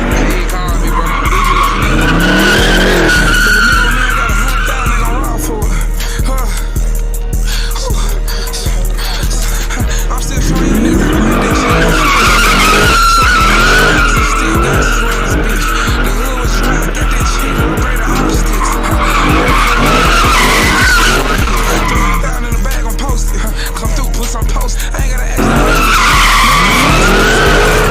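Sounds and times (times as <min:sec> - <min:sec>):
car tyres squealing: 0:00.0 - 0:06.7, 0:07.8 - 0:27.9
engine revving: 0:00.0 - 0:27.9
music: 0:00.0 - 0:27.9.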